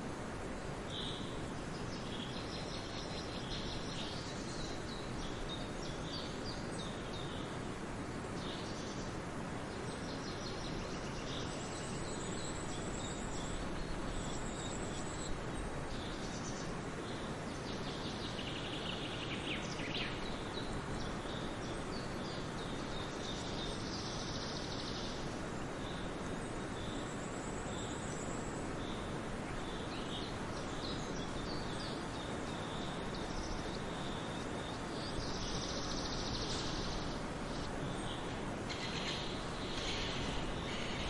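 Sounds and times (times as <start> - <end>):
forest birds chirping and singing: 0.0 - 41.0
outdoor ambience hiss: 0.0 - 41.0.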